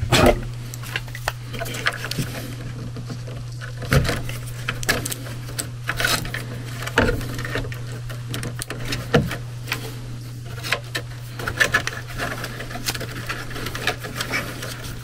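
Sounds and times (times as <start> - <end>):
steady low hum: 0.0 - 15.0
plastic connectors rattling: 0.2 - 15.0.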